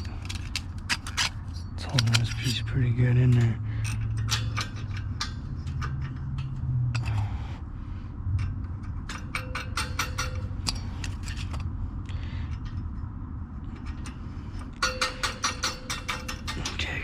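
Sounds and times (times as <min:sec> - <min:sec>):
metal hardware clicking: 0:00.0 - 0:07.4, 0:08.4 - 0:11.7, 0:13.7 - 0:17.0
low steady hum: 0:00.0 - 0:17.0.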